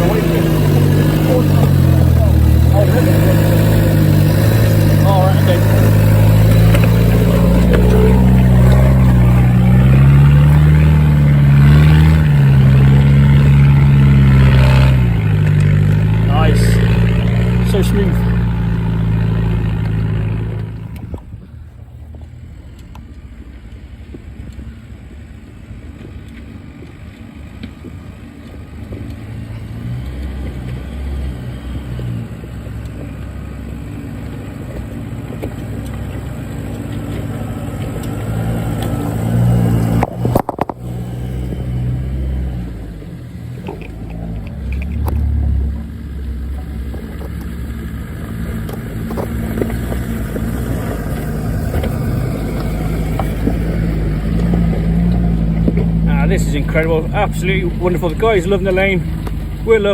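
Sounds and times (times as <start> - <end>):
off-road engines labouring: 0.0 - 59.9.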